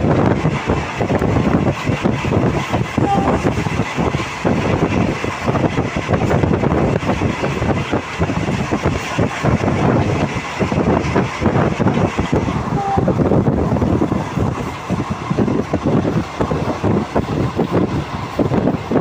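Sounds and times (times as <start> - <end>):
rumble of wheels on rail: 0.0 - 19.0.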